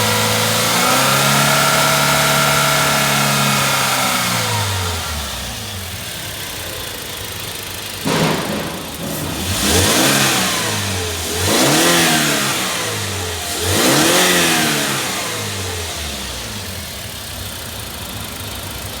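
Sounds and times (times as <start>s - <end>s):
engine idling and revving: 0.0s - 19.0s.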